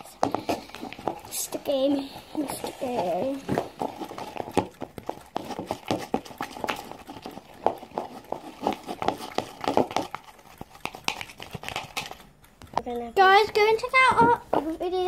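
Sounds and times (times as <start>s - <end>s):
sticky slime squelching: 0.0s - 15.0s.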